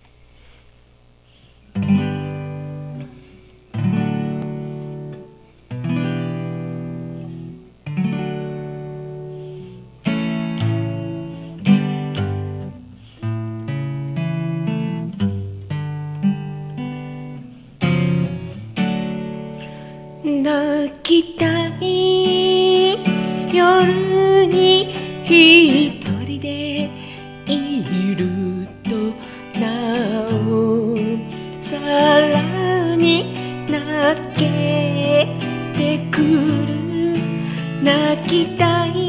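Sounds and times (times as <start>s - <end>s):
acoustic guitar playing: 1.7s - 39.0s.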